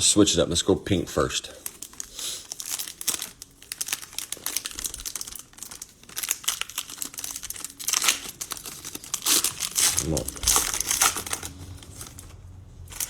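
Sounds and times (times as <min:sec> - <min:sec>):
cards being handled: 0:00.9 - 0:13.0
cellophane wrapper crinkling and tearing: 0:01.0 - 0:13.0.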